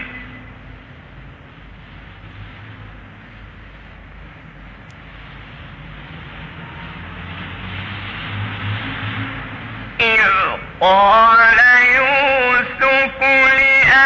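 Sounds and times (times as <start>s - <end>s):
low hum: 0.0s - 13.2s
recording hiss: 0.0s - 14.0s.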